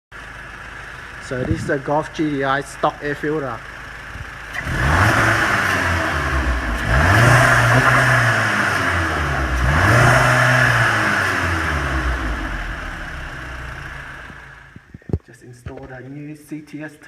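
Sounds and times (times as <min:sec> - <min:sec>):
car engine revving: 0:00.4 - 0:14.8.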